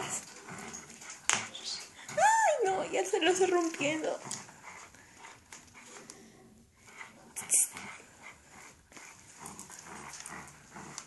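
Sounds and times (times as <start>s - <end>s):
dog breathing: 0.0s - 11.0s.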